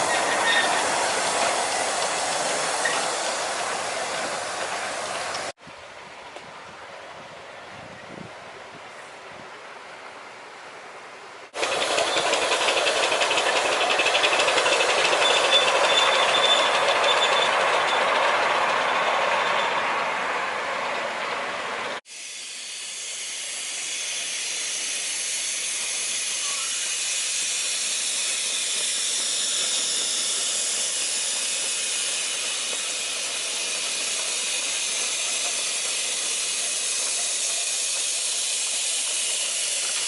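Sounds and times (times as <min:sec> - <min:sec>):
steam hissing: 0:00.0 - 0:05.6, 0:11.5 - 0:40.0.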